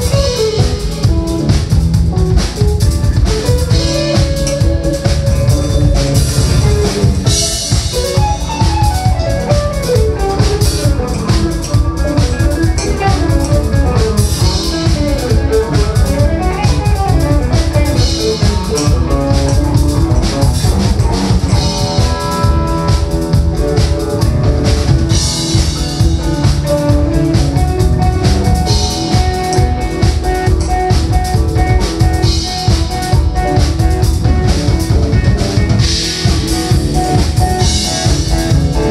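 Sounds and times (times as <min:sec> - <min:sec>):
drum kit: 0:00.0 - 0:38.9
electric bass: 0:00.0 - 0:38.9
electric guitar melody: 0:00.0 - 0:38.9.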